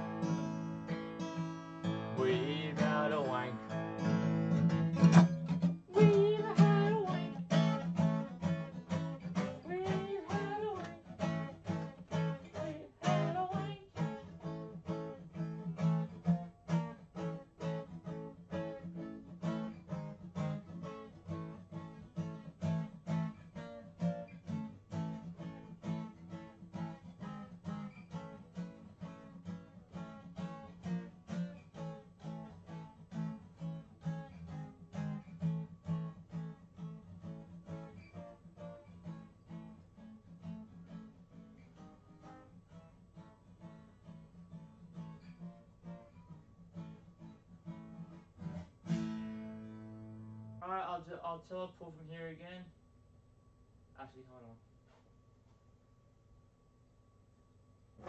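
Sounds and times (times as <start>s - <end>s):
acoustic guitar strumming: 0.0s - 52.6s.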